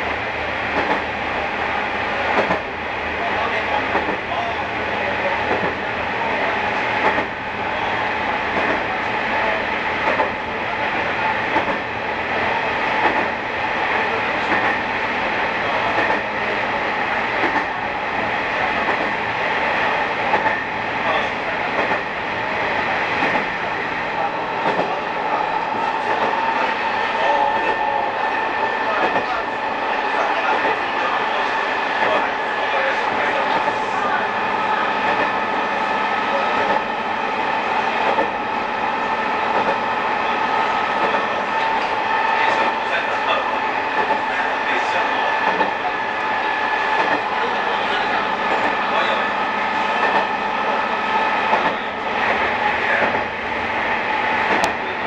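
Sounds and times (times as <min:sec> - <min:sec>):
diesel railcar rumbling in a tunnel: 0:00.0 - 0:55.0
rail clicks: 0:00.0 - 0:55.0.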